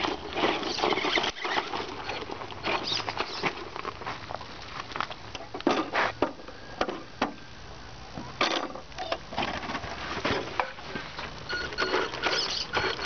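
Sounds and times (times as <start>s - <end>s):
toy truck over rough ground: 0.0s - 7.4s, 8.4s - 13.0s.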